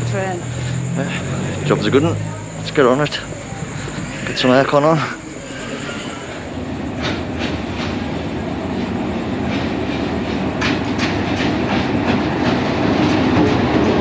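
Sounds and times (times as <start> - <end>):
train rumble: 0.0 - 14.0
train wheels clacking on rails: 0.0 - 14.0.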